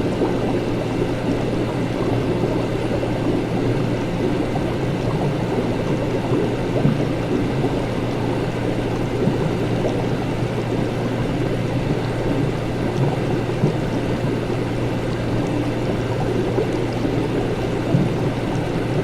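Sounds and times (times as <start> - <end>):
bubbling gurgling liquid: 0.0 - 19.0
low machine hum: 0.0 - 19.0.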